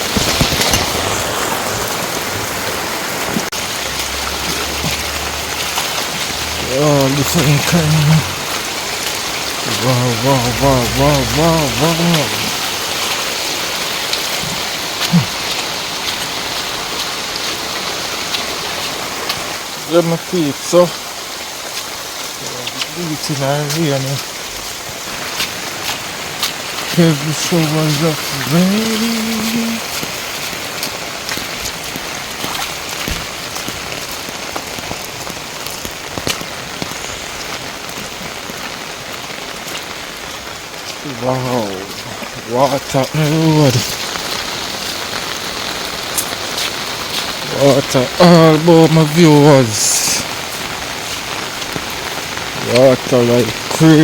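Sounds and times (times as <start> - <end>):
heavy rain: 0.0 - 54.0
raindrops ticking on umbrella: 0.0 - 54.0.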